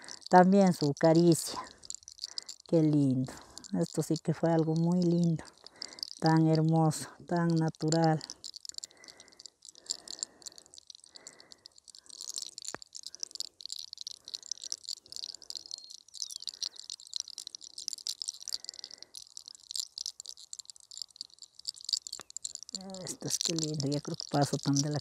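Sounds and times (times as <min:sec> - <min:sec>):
hair crackling between fingers: 0:00.0 - 0:25.0.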